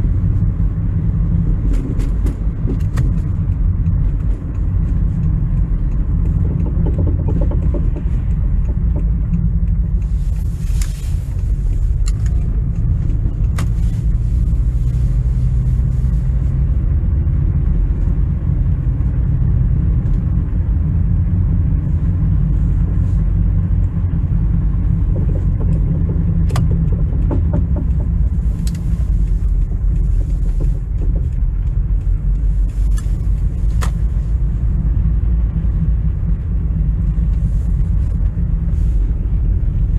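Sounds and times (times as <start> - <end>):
car low rumble: 0.0 - 39.9.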